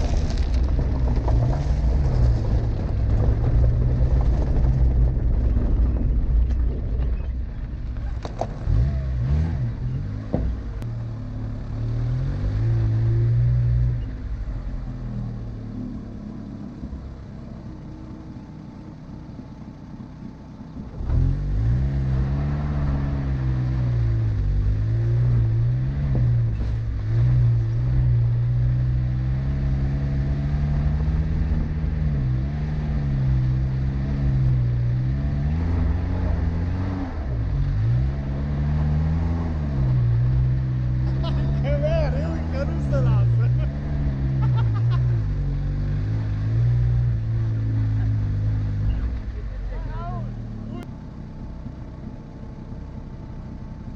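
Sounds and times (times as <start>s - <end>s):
car engine working hard: 0.0s - 53.9s.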